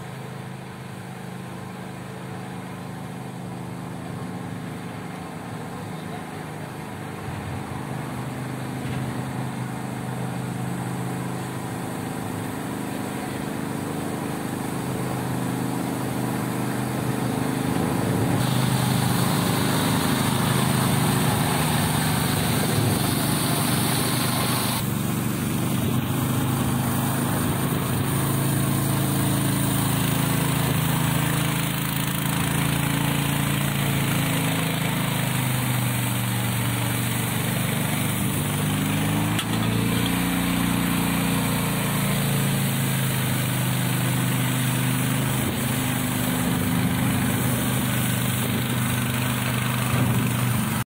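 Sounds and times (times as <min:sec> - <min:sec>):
sprayer engine hum: 0:00.0 - 0:50.9
airy rush of spray: 0:07.9 - 0:50.8.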